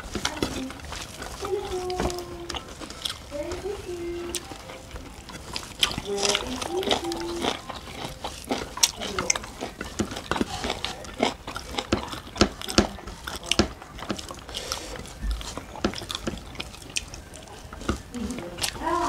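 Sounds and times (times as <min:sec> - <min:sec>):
people chewing with wet smacks: 0:00.0 - 0:19.0.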